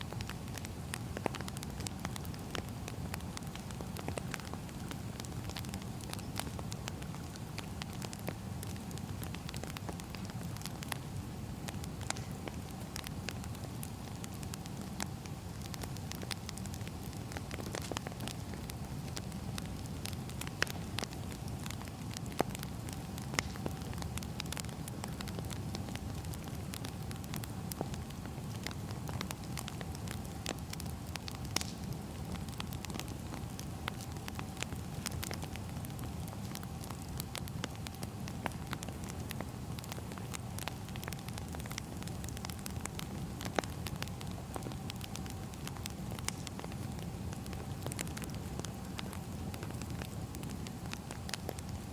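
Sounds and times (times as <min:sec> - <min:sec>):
faint steady hum: 0:00.0 - 0:51.9
firewood crackling and popping: 0:00.0 - 0:51.9.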